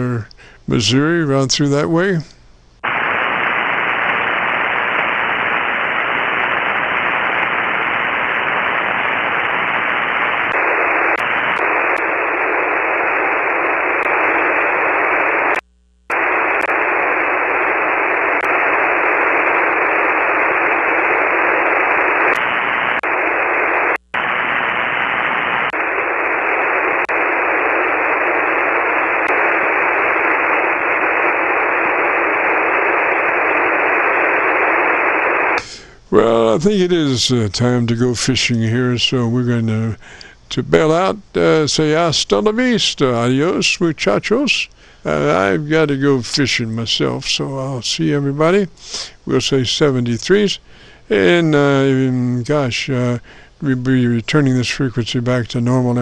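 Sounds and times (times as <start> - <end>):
radio receiver hiss: 0.0 - 56.0.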